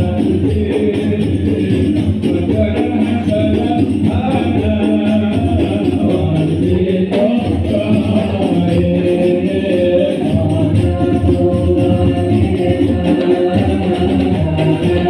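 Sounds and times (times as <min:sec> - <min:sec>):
group singing devotional songs: 0:00.0 - 0:15.0
tambourine-like hand percussion: 0:00.0 - 0:15.0.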